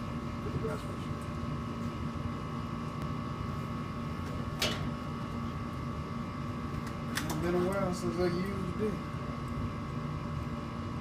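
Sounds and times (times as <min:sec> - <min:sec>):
constant high whine: 0:00.0 - 0:11.0
steady mechanical hum: 0:00.0 - 0:11.0.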